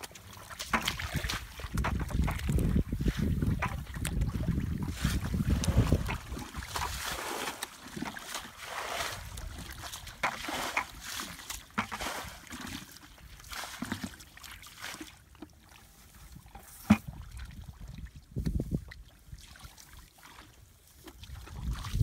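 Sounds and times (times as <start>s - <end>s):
muddy water splashing: 0.0s - 22.0s.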